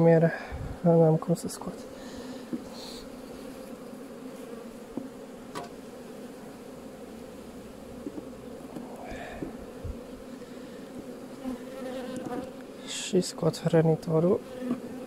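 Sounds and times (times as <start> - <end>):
bees humming: 0.0 - 15.0.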